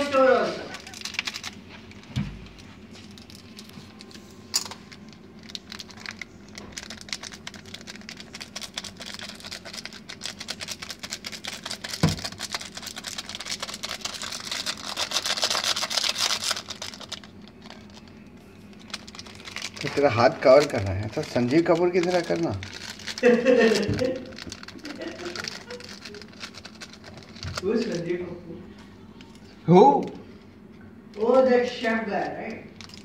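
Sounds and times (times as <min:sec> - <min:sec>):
dry noodles crackling and crunching: 0:00.0 - 0:28.4, 0:31.2 - 0:33.0.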